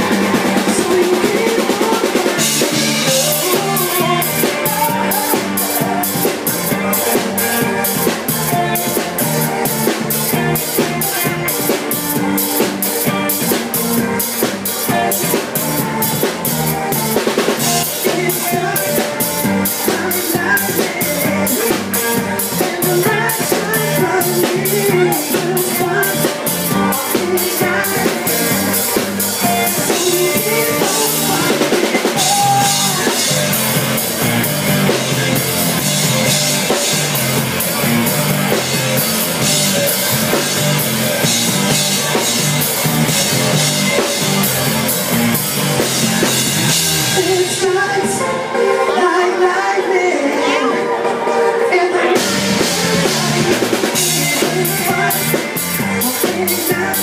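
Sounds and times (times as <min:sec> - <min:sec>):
drum kit: 0:00.0 - 0:49.0, 0:51.0 - 0:57.0
bass guitar: 0:00.0 - 0:49.6, 0:52.0 - 0:57.0
electric guitar: 0:00.0 - 0:57.0
keyboard: 0:00.0 - 0:57.0.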